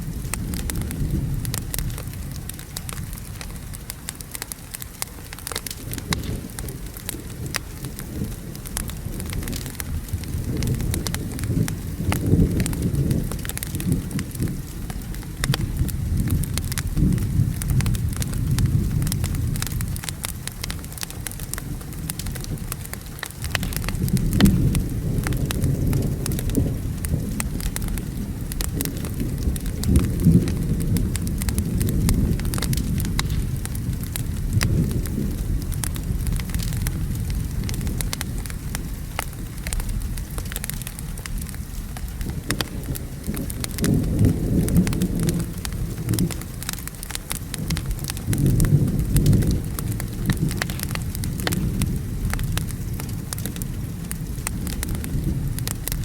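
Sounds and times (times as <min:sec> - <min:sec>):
steady rain: 0:00.0 - 0:56.0
thunder rumbling: 0:00.0 - 0:56.0
wood fire crackling: 0:00.0 - 0:56.0.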